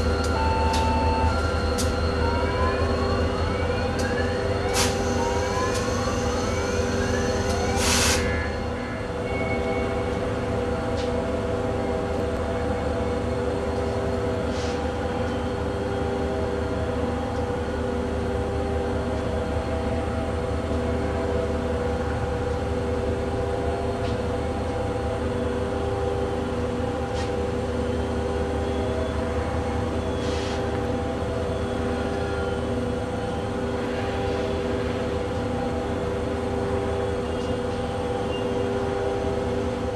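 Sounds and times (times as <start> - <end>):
diesel train rumbling: 0.0 - 39.9.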